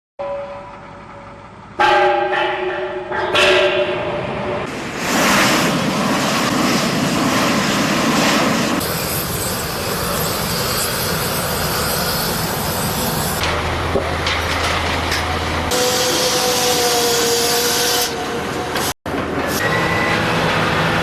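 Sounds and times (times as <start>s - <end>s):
machinery engines running: 0.6s - 16.8s, 18.2s - 21.0s.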